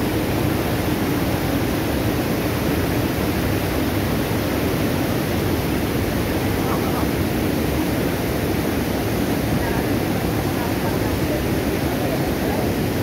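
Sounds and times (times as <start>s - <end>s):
floodwater rushing over spillway: 0.0s - 13.0s.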